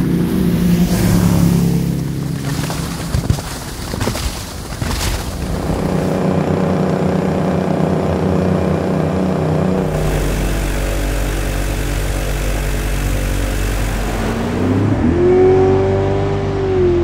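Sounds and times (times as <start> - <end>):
airboat engine and propeller: 0.0 - 17.0
outboard motor running: 0.0 - 17.0.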